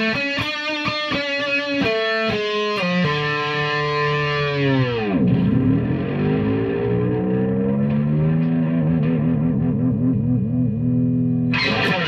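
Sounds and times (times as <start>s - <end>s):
electric guitar through an amp: 0.0s - 12.0s.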